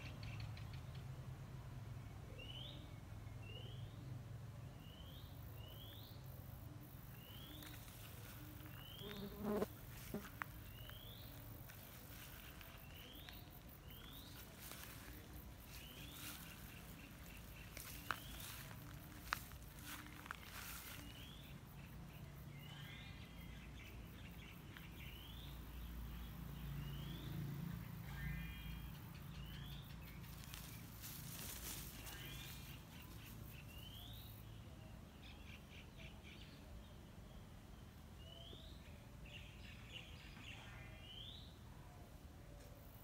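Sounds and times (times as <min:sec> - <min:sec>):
bird chirping: 0:00.0 - 0:01.3, 0:04.8 - 0:41.6
low outdoor rumble: 0:00.0 - 0:34.6.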